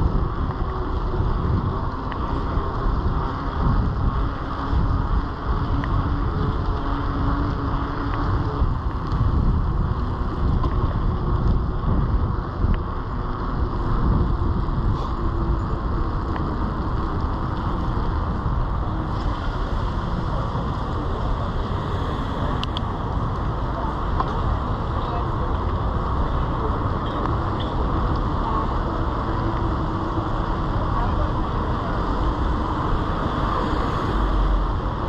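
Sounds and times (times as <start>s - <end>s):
tyres on wet street: 0.0s - 35.0s
wind buffeting microphone: 0.0s - 35.0s.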